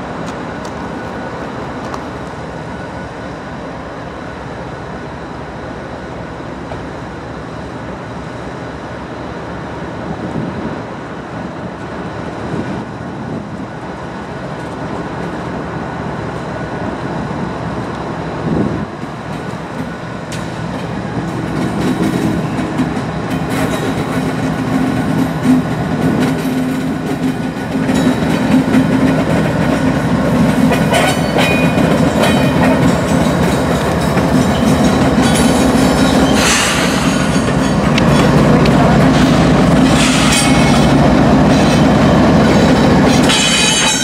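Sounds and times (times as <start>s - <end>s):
rail clicks: 0.0s - 5.0s, 9.4s - 44.0s
locomotive engines droning: 0.0s - 44.0s.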